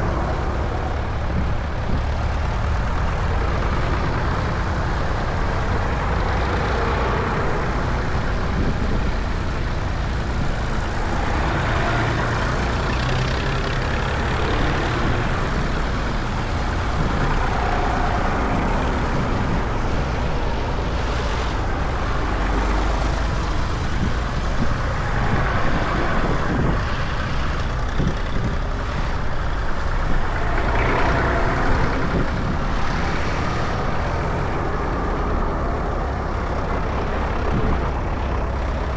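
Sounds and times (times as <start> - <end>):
tractor engines rumbling: 0.0 - 38.9.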